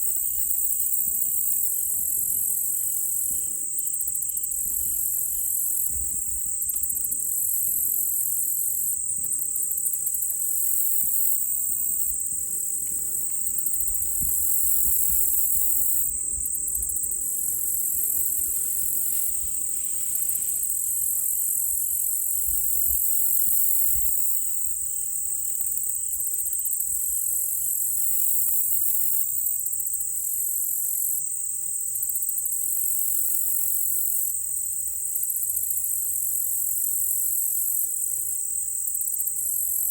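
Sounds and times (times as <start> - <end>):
crickets trilling: 0.0 - 39.9
pulsing insect layer: 0.0 - 39.9.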